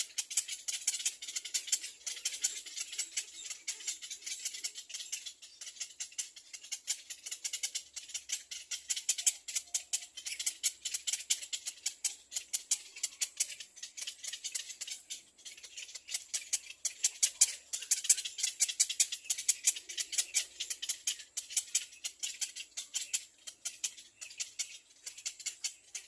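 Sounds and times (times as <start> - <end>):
baby birds chirping: 0.0 - 26.0.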